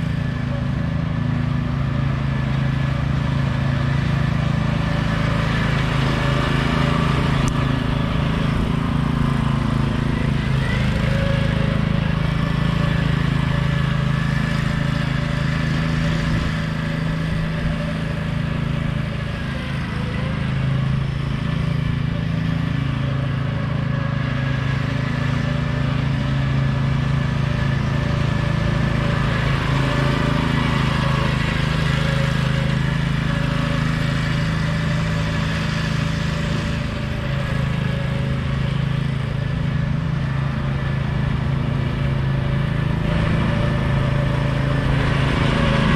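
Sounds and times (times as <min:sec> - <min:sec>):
riding lawn mower engine: 0:00.0 - 0:45.9.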